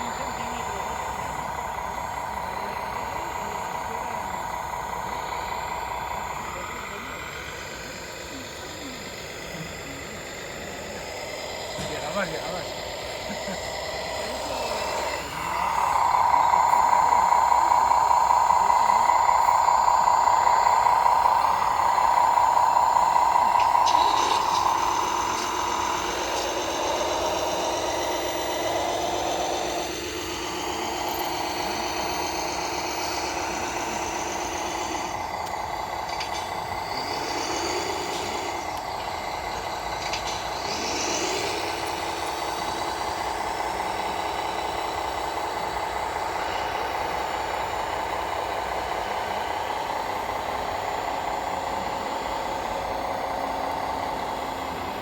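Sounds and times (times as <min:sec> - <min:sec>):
model vehicle motors whining: 0:00.0 - 0:55.0.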